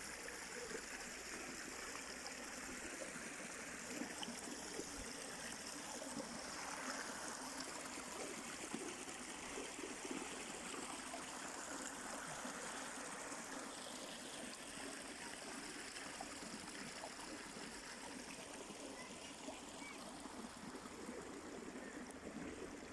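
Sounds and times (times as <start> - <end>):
stream of water flowing: 0.0 - 22.9.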